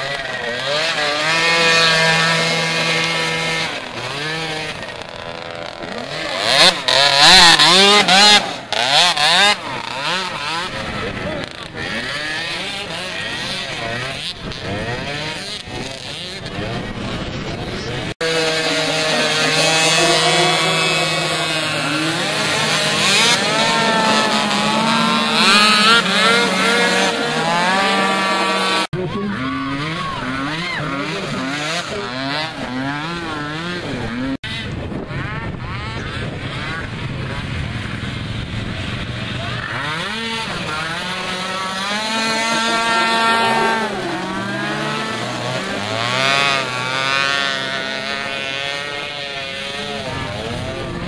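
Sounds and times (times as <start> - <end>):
other engines running: 0.0 - 51.0
quad engines revving: 0.0 - 51.0
quads idling: 0.0 - 51.0.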